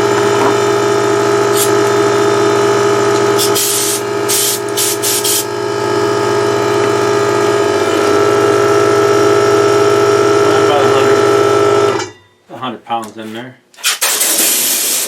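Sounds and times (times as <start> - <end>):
electric air compressor running: 0.0 - 12.1, 13.8 - 15.0.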